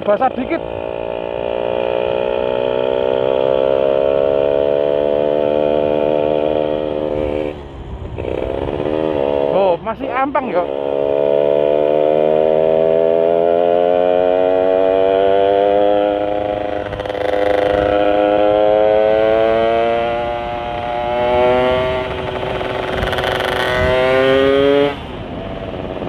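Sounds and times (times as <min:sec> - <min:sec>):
two-stroke motorcycle engine revving: 0:00.0 - 0:26.0.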